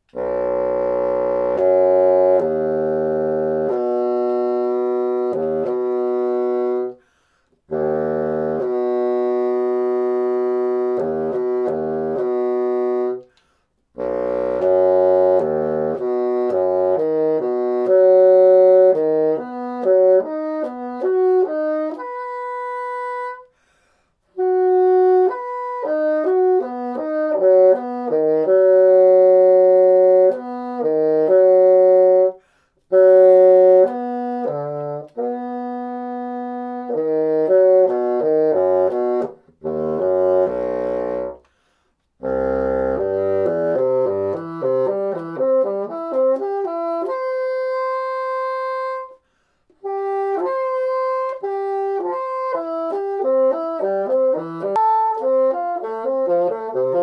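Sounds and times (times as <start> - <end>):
bassoon playing arpeggios: 0.1 - 7.0, 7.7 - 13.3, 14.0 - 23.5, 24.4 - 41.5, 42.2 - 49.2, 49.8 - 57.0.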